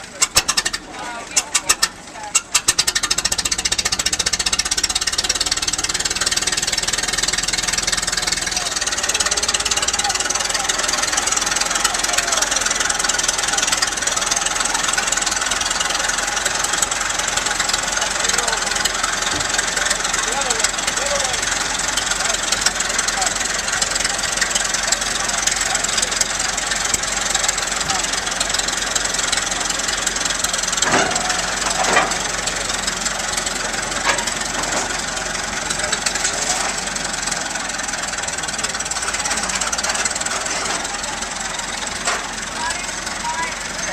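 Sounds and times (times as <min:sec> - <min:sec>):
engine running steadily: 0:00.0 - 0:43.9.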